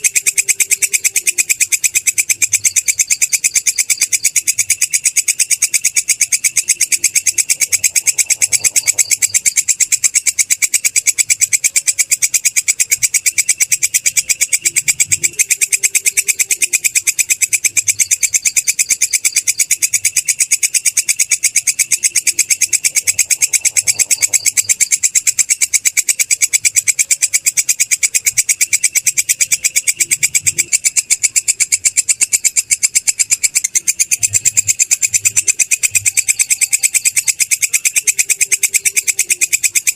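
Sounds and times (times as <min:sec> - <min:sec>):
katydid high-pitched pulsing trill: 0:00.0 - 0:39.9.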